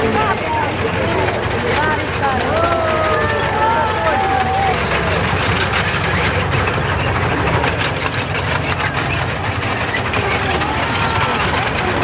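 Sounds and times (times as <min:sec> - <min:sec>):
steel tracks clattering: 0:00.0 - 0:12.0
tank diesel engine running: 0:00.0 - 0:12.0.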